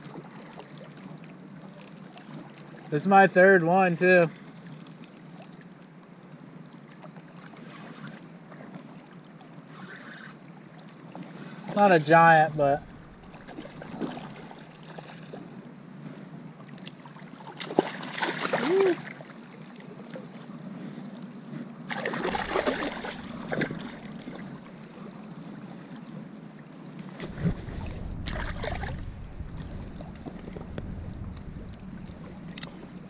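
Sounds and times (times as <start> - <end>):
water sloshing and splashing: 0.0 - 5.9, 6.7 - 21.0, 21.9 - 33.0.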